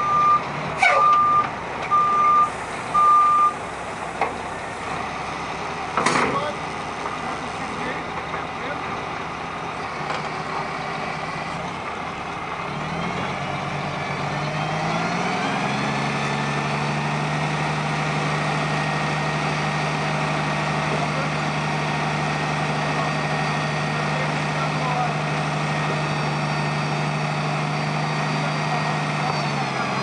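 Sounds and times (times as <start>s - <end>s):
diesel truck engine idling and revving: 0.0s - 30.0s.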